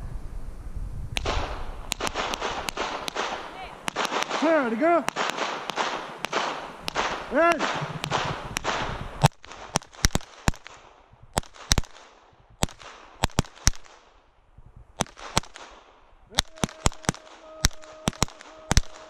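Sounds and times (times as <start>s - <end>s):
pistol shots: 1.2s - 14.1s, 15.0s - 19.0s.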